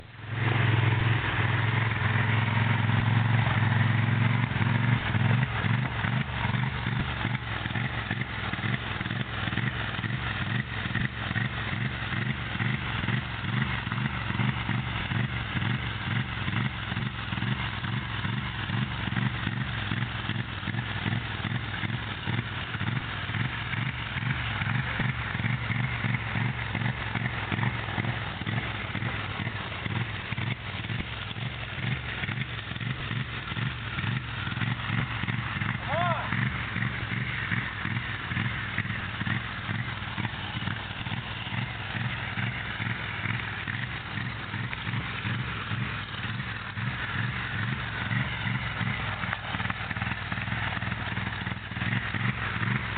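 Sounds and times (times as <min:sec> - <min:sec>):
engine running and stuttering: 0:00.0 - 0:52.9.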